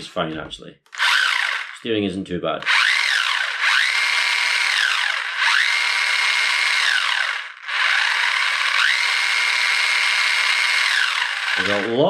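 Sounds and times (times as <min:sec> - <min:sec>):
rc car motor whining: 0:00.9 - 0:01.9, 0:02.6 - 0:12.0.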